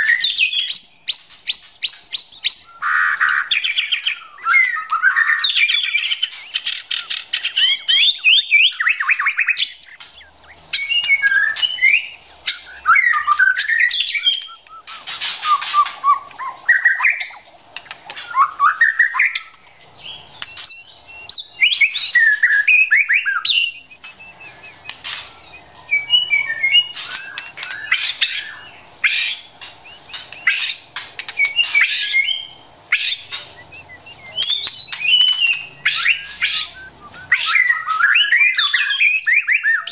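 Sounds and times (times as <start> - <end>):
bird whistled chattering calls: 0.0 - 17.4, 20.5 - 30.8, 31.4 - 39.9.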